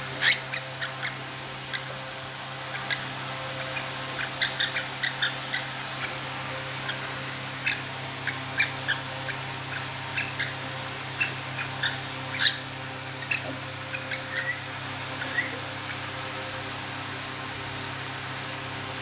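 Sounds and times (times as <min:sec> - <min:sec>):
bird chirping high: 0:00.0 - 0:02.0, 0:02.6 - 0:16.1.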